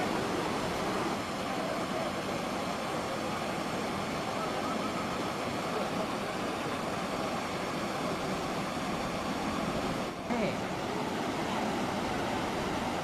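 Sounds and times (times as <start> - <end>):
water rushing over a weir: 0.0 - 13.0.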